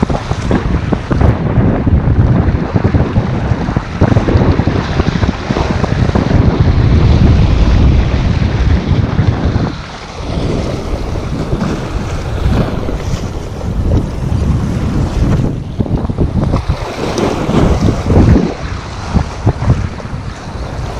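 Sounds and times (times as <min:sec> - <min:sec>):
waves breaking over rocks: 0:00.0 - 0:20.9
wind buffeting microphone: 0:00.0 - 0:20.9.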